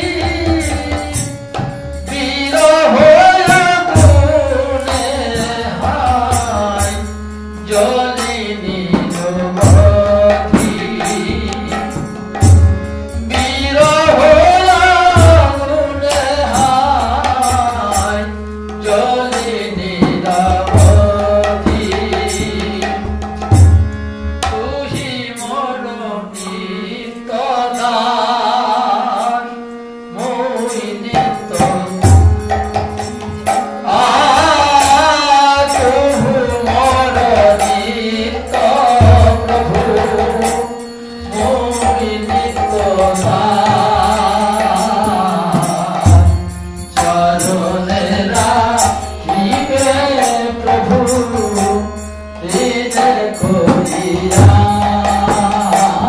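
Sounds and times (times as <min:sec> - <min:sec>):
harmonium: 0:00.0 - 0:56.0
man singing devotional song: 0:00.0 - 0:56.0.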